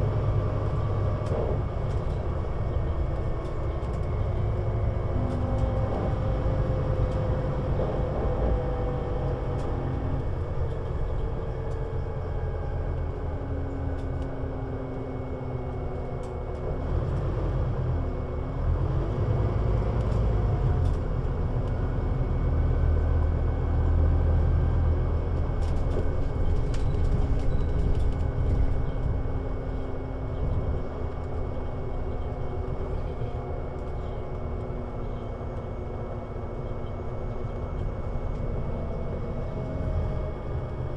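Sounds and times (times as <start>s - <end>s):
bus diesel engine rumbling: 0.0s - 40.9s.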